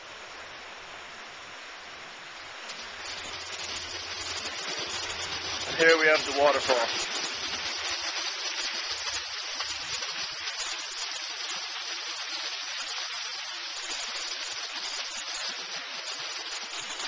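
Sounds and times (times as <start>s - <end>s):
waterfall splashing over rocks: 0.0s - 17.0s.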